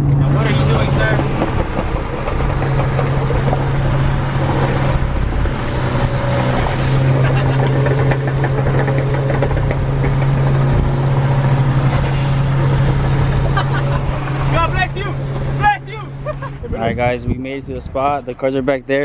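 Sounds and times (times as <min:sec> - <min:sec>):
car engine and exhaust droning: 0:00.0 - 0:19.0
road noise: 0:00.0 - 0:19.0.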